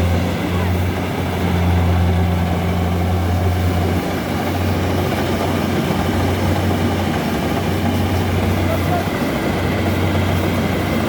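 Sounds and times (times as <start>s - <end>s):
combine harvester diesel engine: 0.0s - 11.0s
constant mechanical din: 0.0s - 11.0s.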